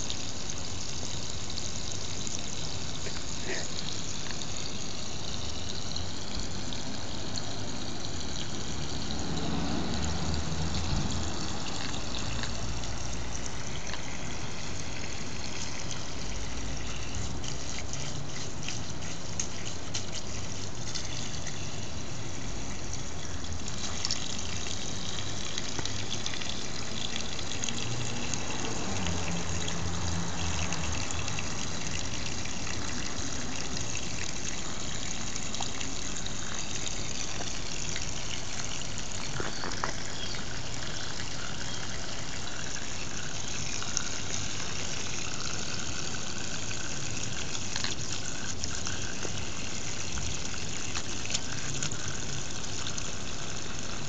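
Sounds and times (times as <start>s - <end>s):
water running from hose: 0.0s - 54.0s.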